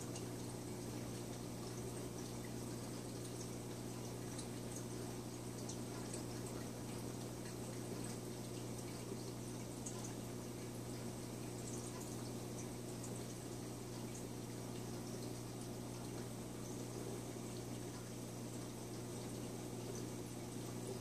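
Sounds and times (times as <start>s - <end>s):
low pump hum: 0.0s - 21.0s
trickling bubbling water: 0.0s - 21.0s.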